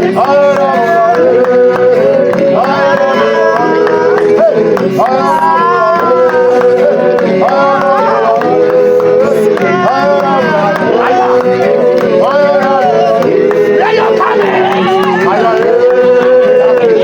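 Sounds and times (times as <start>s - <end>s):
held instrumental backing: 0.0s - 17.0s
voices singing worship music: 0.0s - 17.0s.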